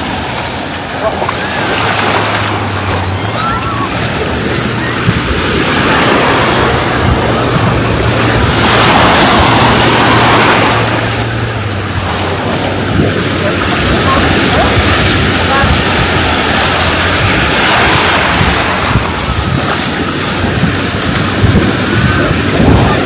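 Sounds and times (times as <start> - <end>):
ocean surf washing onto beach: 0.0 - 23.0.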